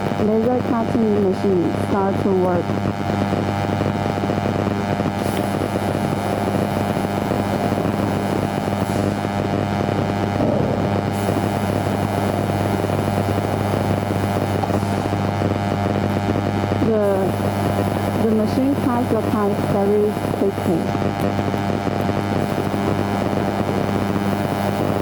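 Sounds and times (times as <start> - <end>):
cutting machine humming: 0.0 - 25.0.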